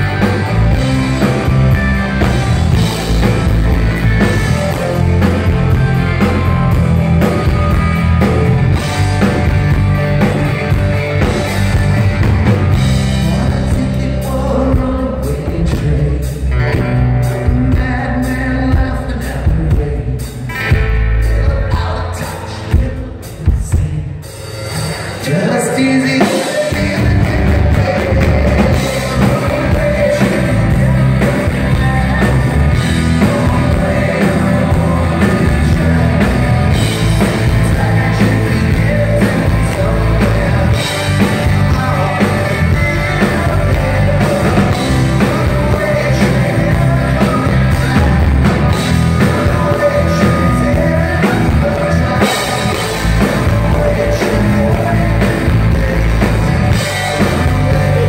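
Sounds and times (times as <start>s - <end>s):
live rock band: 0.0s - 58.0s
person singing: 0.0s - 58.0s.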